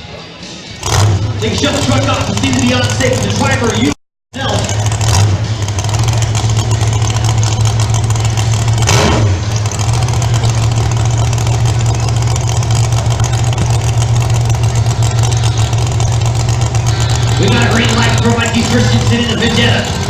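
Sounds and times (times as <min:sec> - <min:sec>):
monster truck engine droning: 0:00.0 - 0:20.0.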